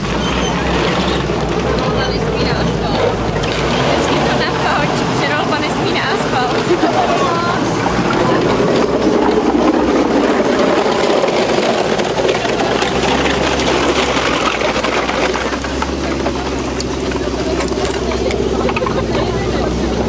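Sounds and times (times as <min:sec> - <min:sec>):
metal tracks clattering: 0:00.0 - 0:20.0
snow vehicle engine running: 0:00.0 - 0:20.0.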